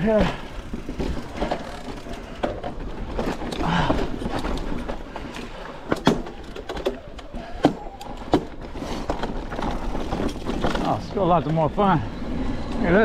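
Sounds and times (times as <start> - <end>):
bike knocking and rattling: 0.0 - 13.0
bike tyres rolling on dirt: 0.0 - 13.0.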